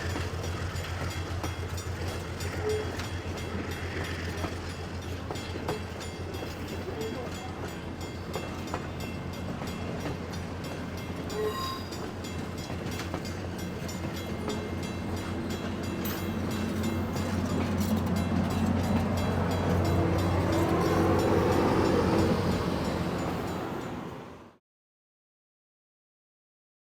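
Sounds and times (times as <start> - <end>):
train engine drone: 0.0 - 24.6
wheels rumbling on rail: 0.0 - 24.6.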